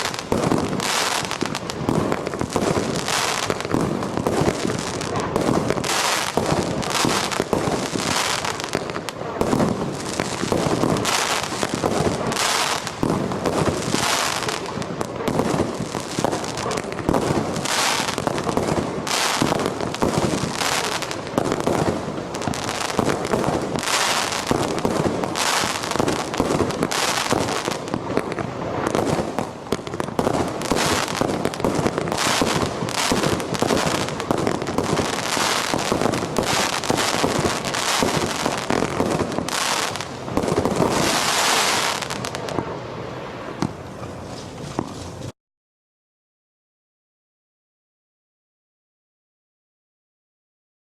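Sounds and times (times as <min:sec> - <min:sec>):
firework crackling: 0:00.0 - 0:45.3
firework shots: 0:00.0 - 0:45.3.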